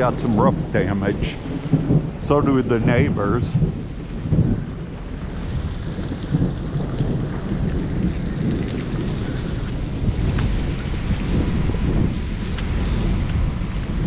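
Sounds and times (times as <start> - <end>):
low rumble of thunder: 0.0 - 14.0
steady rain falling: 0.0 - 14.0.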